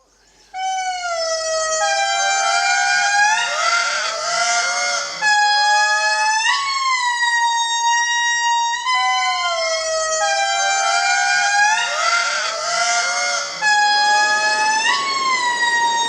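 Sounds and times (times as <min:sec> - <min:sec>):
lemurs wailing: 0:00.6 - 0:08.2, 0:08.9 - 0:16.0.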